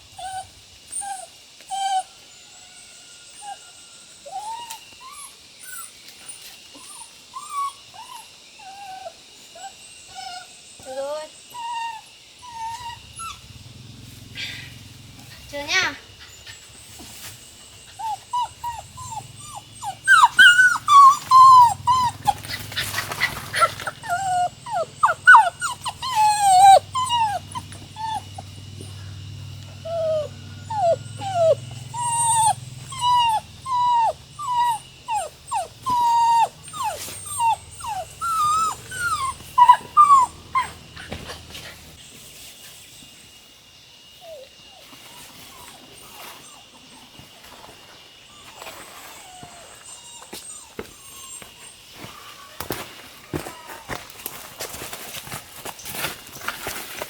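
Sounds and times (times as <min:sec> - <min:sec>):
dog whining and whimpering: 0:00.1 - 0:02.1, 0:02.8 - 0:13.7, 0:17.7 - 0:42.0, 0:44.2 - 0:47.2, 0:48.3 - 0:54.0.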